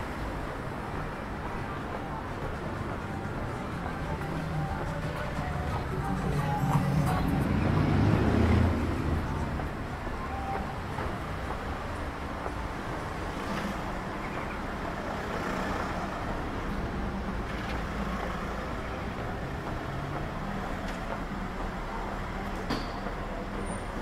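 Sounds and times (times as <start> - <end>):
city traffic: 0.0 - 24.0
vehicle rumble: 0.0 - 24.0.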